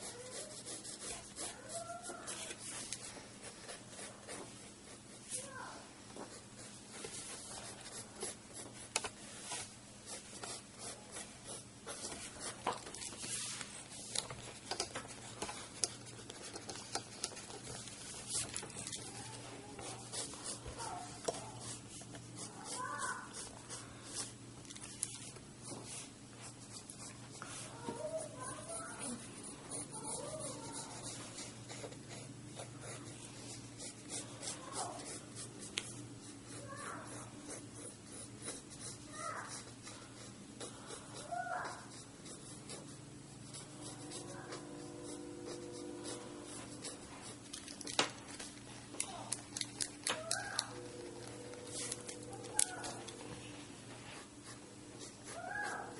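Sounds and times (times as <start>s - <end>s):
pencil scratching on paper: 0.0s - 13.7s, 14.7s - 24.4s, 25.6s - 47.4s, 54.2s - 55.9s.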